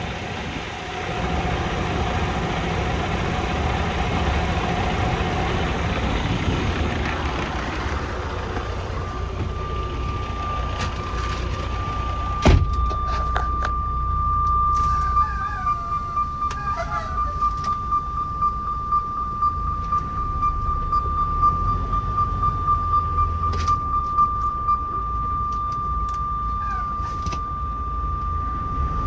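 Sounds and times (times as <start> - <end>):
diesel truck engine idling: 0.0 - 29.0
steady high tone: 0.0 - 29.0.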